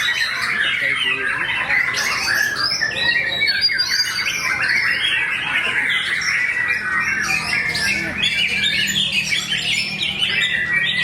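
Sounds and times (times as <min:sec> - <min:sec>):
songbirds chorus: 0:00.0 - 0:11.0.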